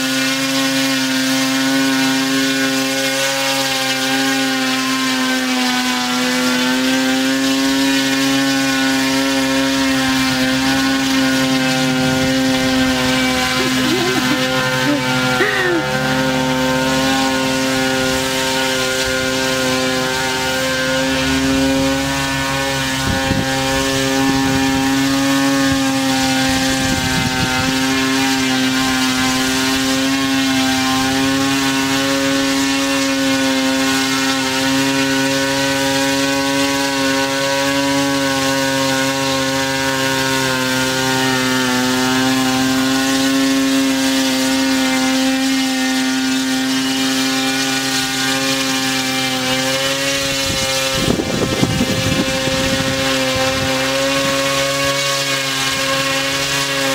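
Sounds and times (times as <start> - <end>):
drone propellers buzzing: 0.0 - 56.9.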